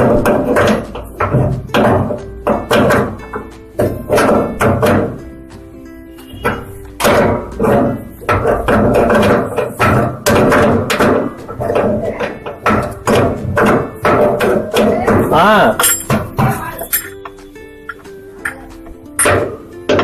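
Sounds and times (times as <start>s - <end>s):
hand tools knocking and clanking: 0.0s - 20.0s.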